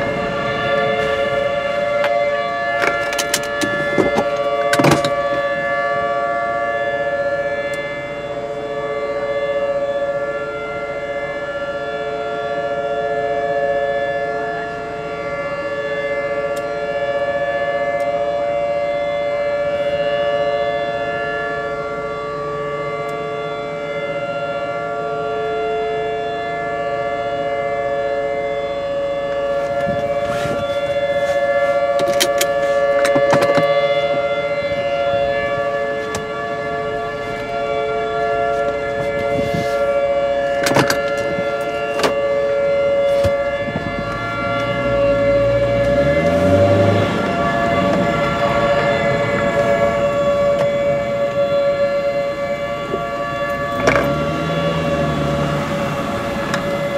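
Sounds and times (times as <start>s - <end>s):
warning sirens: 0.0s - 56.9s.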